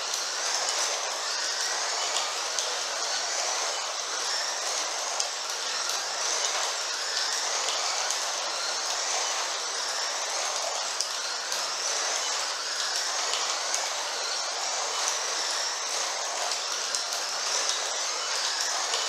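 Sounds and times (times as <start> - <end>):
slot car motors whirring: 0.0 - 19.0.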